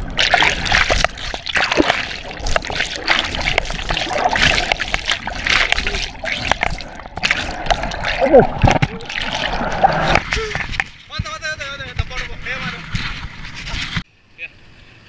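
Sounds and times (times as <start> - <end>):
water splashing and sloshing: 0.0 - 14.1.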